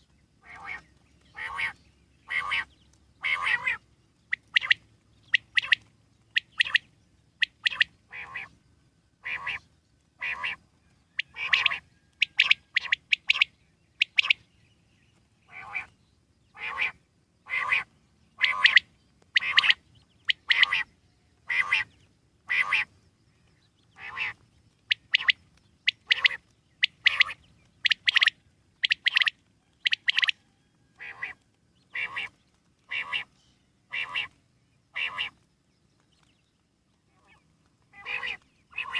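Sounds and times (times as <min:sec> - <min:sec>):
quail calling: 0:00.4 - 0:08.6, 0:09.2 - 0:09.6, 0:10.2 - 0:14.4, 0:15.5 - 0:15.9, 0:16.5 - 0:22.9, 0:24.0 - 0:33.3, 0:33.9 - 0:35.4, 0:37.1 - 0:38.9.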